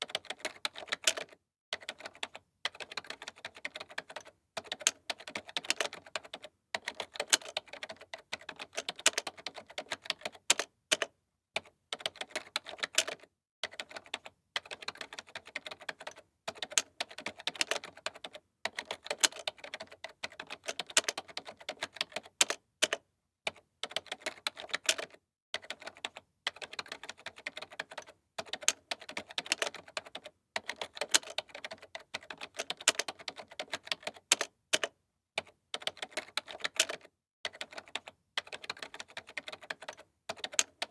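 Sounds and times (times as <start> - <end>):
typing on computer keyboard: 0.0 - 40.9.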